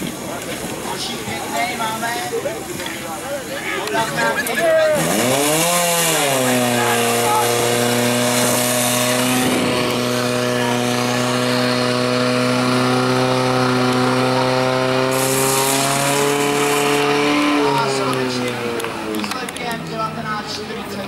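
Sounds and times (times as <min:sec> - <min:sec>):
fire pump engine high-revving drone: 0:00.0 - 0:20.9.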